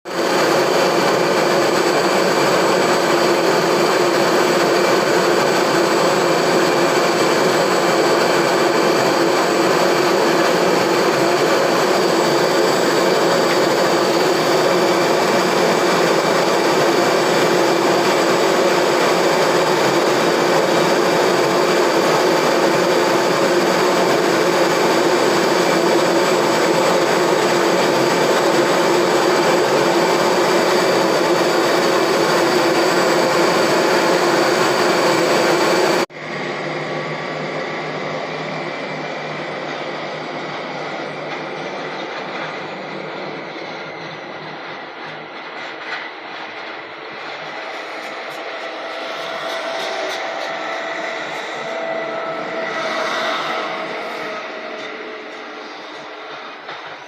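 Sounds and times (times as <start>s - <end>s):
jet engines hissing and whining: 0.0s - 57.0s.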